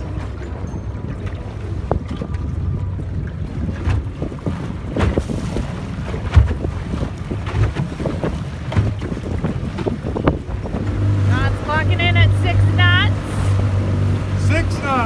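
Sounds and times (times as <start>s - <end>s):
wind buffeting microphone: 0.0s - 14.4s
water rushing against hull: 0.0s - 15.0s
water splashes: 0.0s - 15.0s.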